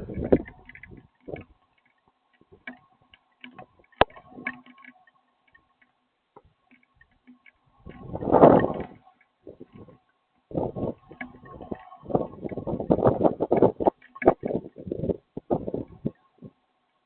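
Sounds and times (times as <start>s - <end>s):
faint ticks and taps: 0.0s - 17.0s.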